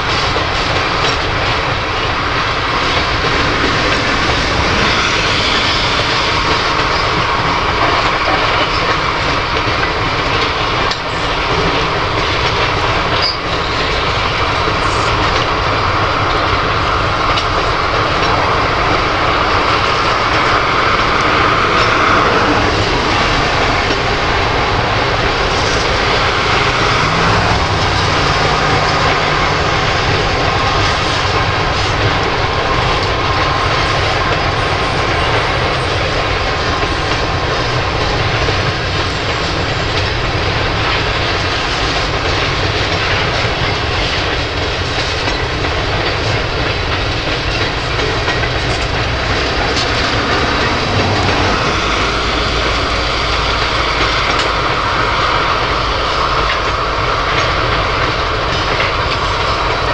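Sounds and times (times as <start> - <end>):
freight train rolling: 0.0 - 59.9.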